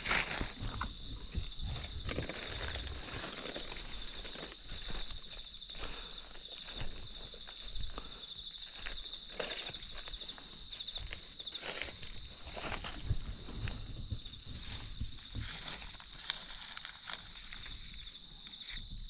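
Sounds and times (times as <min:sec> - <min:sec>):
footsteps rustling on forest floor: 0:00.0 - 0:18.9
high-pitched insect drone: 0:00.0 - 0:19.0.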